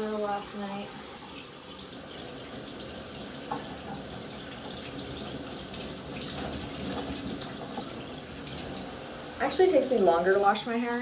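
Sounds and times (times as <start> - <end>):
shower water running: 0.0 - 11.0.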